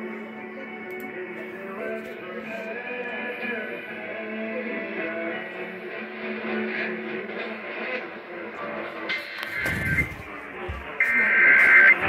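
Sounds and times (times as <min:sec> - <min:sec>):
music from radio broadcast: 0:00.0 - 0:12.0.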